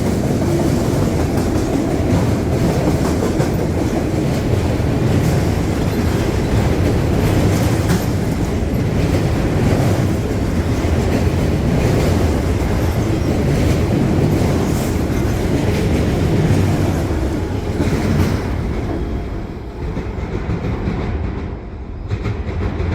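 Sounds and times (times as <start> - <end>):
wheels clicking over rail joints: 0.0 - 19.0
freight train wheels rumbling: 0.0 - 22.9.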